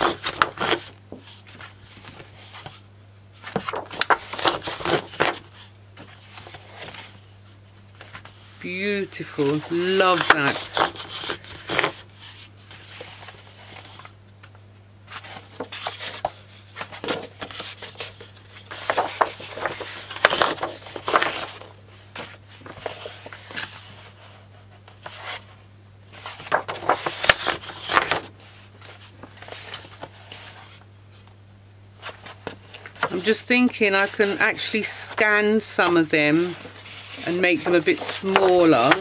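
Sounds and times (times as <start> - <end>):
paper sheets rustling: 0.0 - 2.8, 3.4 - 14.2, 15.1 - 31.3, 32.0 - 39.0
steady low hum: 0.0 - 39.0.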